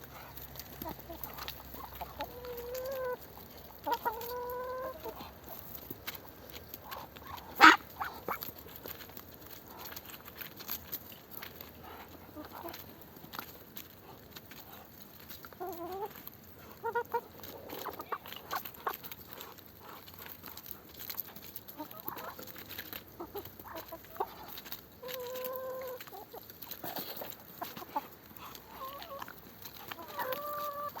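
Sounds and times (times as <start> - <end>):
chickens clucking: 0.0 - 31.0
clicks and rustles: 0.0 - 31.0.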